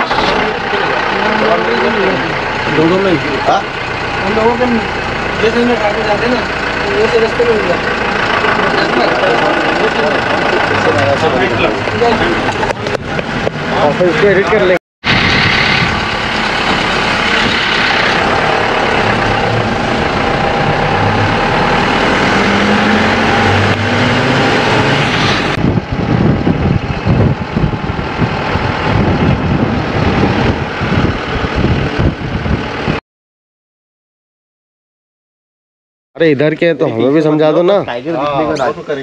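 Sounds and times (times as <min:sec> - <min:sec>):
truck engine and road noise: 0:00.0 - 0:33.0, 0:36.2 - 0:39.0.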